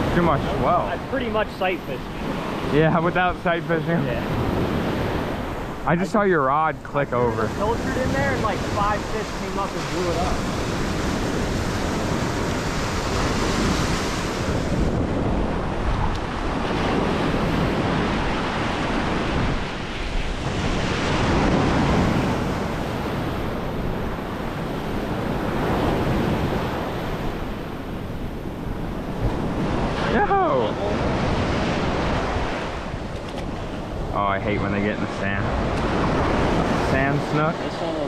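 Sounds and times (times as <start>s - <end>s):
ocean surf breaking: 0.0s - 38.0s
wind buffeting microphone: 0.0s - 38.0s.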